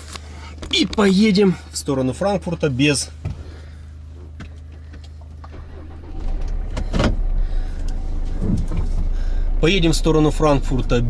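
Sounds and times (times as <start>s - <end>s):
diesel engine hum in car cabin: 0.0s - 11.0s.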